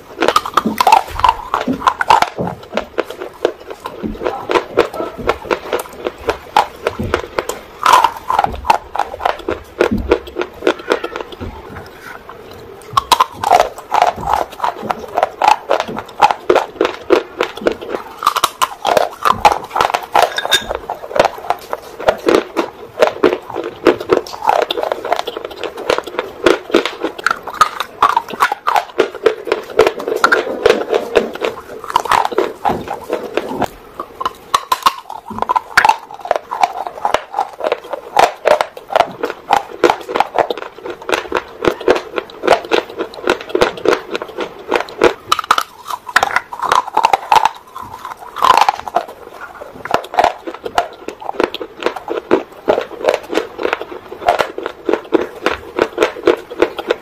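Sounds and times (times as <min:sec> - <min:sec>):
crisp crunching bites: 0:00.1 - 0:57.0.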